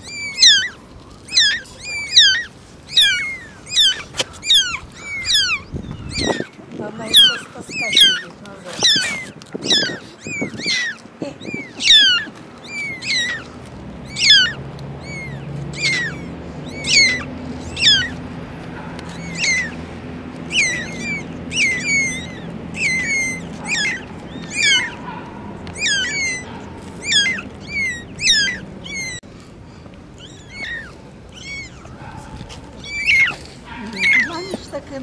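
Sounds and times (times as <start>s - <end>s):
kittens mewing: 0.0s - 35.0s.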